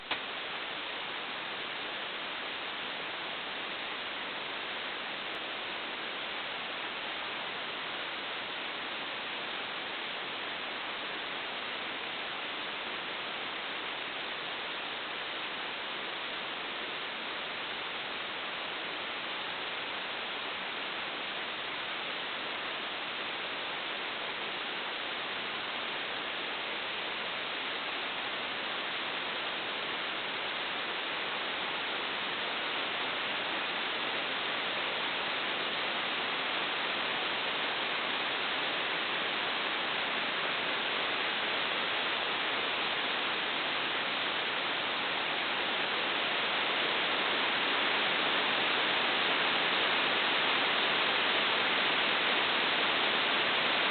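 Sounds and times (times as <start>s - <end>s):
steady hiss: 0.0s - 53.9s.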